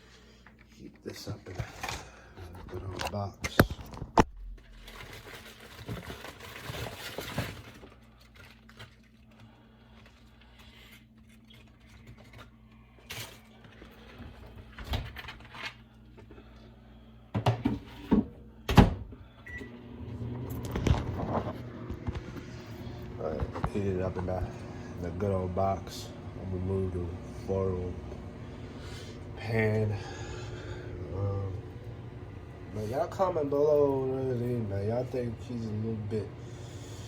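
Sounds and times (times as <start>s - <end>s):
microwave oven humming: 0.0s - 37.0s.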